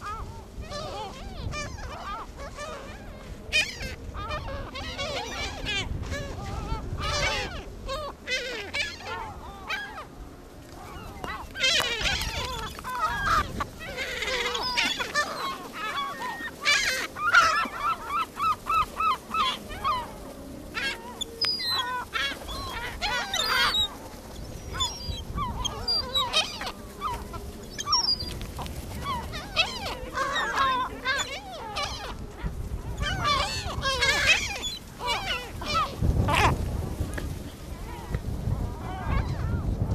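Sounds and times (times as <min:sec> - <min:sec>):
gulls squawking: 0:00.0 - 0:39.8.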